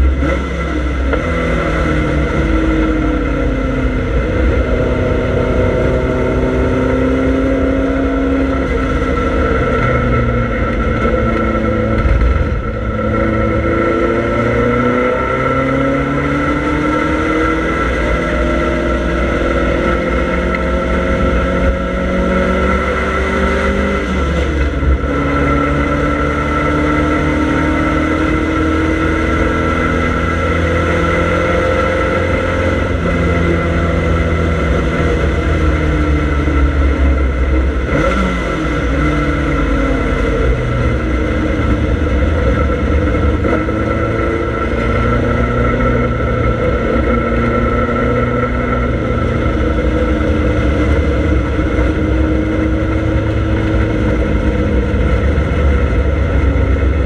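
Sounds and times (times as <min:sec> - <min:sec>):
car engine under hard load: 0:00.0 - 0:57.0.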